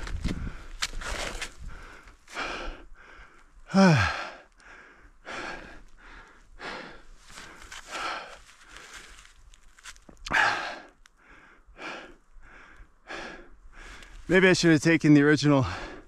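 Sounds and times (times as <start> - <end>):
person breathing hard: 0.2 - 9.3, 10.3 - 14.2, 15.6 - 16.0.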